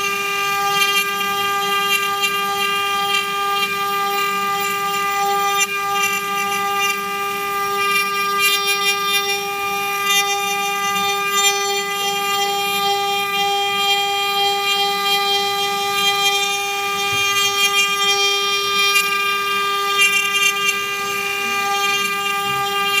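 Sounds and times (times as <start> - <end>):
bit cutting wood: 0.0 - 23.0
router spindle whine: 0.0 - 23.0.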